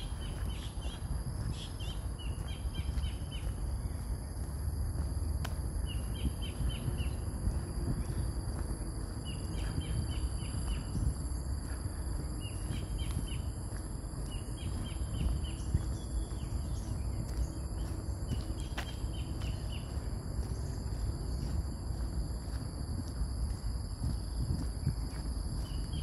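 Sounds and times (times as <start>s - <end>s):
high-pitched insect drone: 0.0s - 22.0s
low rumble: 0.0s - 26.0s.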